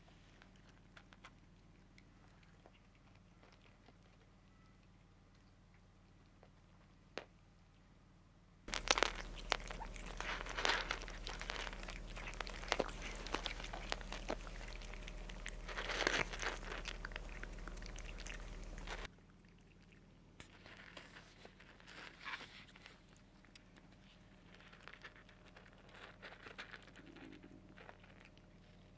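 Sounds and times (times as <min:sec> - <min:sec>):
cats crunching dry kibble: 0:00.0 - 0:07.4, 0:08.7 - 0:28.9.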